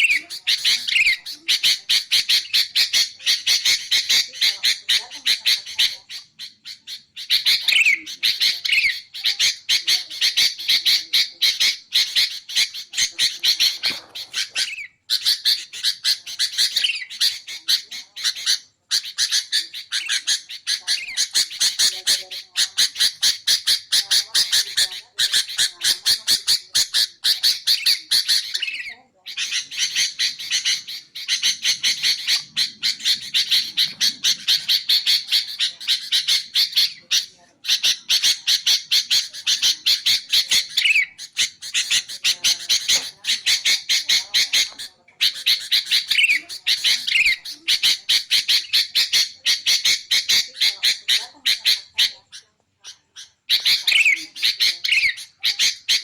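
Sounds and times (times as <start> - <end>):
bulbuls calling sharp notes: 0.0 - 56.0.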